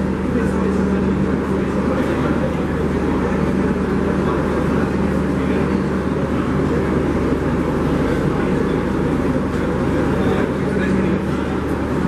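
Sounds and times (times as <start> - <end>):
machinery rumble and hum: 0.0 - 12.0.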